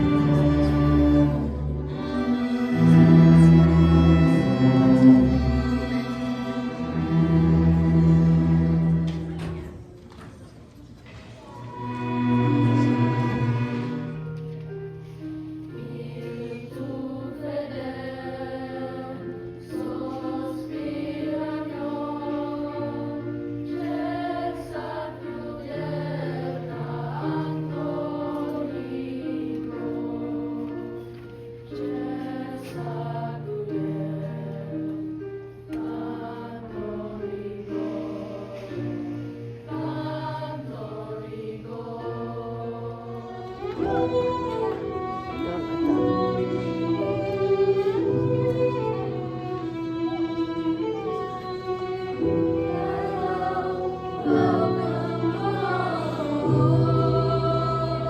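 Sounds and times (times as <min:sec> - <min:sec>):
choir singing sustained chords: 0:00.0 - 0:09.8, 0:11.4 - 0:58.0.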